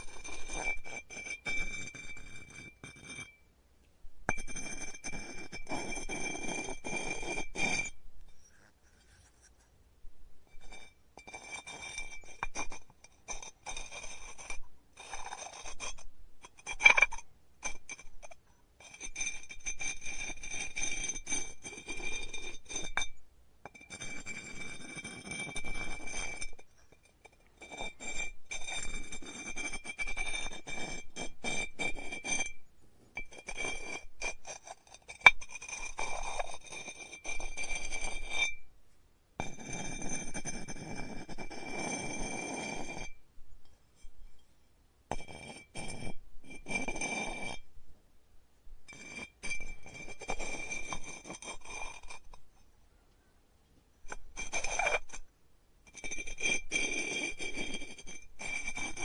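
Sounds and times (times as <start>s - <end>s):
tool scraping clay: 0.0s - 3.4s, 4.3s - 9.7s, 10.6s - 38.6s, 39.4s - 43.2s, 45.1s - 47.6s, 48.9s - 52.5s, 54.1s - 55.2s, 55.9s - 59.0s.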